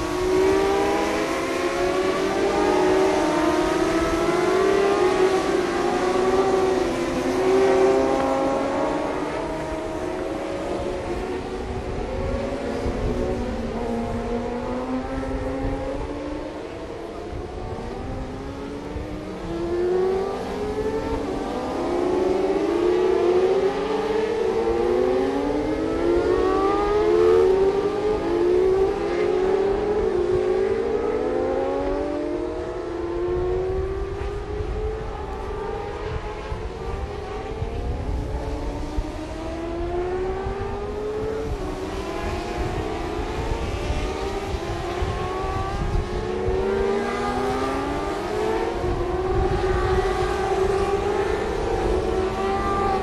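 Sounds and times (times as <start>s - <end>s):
racing motorcycle engines revving: 0.0s - 53.0s.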